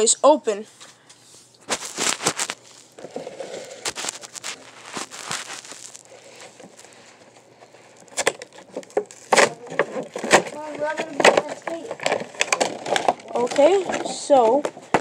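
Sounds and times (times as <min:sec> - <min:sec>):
plastic packaging crackling: 0:01.5 - 0:15.0.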